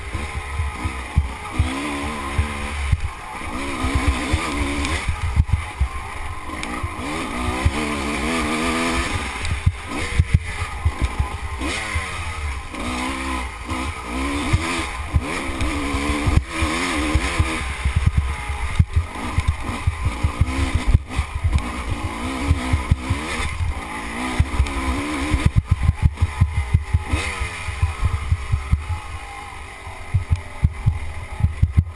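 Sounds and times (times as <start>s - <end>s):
off-road motorcycle engine revving: 0.0s - 31.9s.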